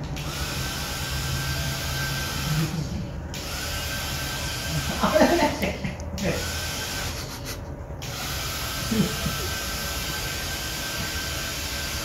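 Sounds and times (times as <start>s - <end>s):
small motor and fan whirring: 0.0s - 12.0s.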